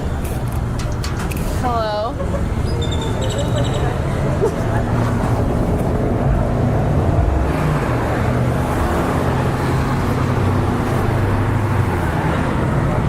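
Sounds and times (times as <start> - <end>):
street traffic passing: 0.0 - 13.0.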